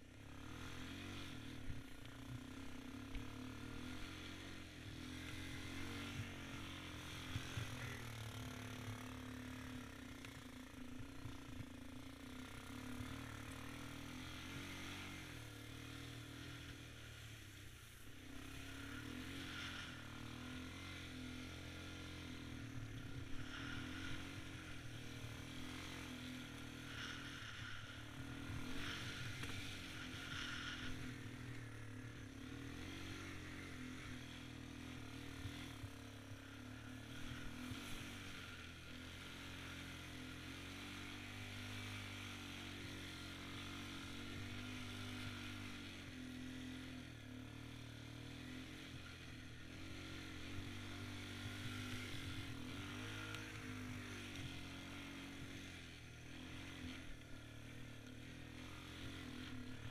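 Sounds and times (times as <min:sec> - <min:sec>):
atv engine under throttle: 0:00.0 - 0:59.9.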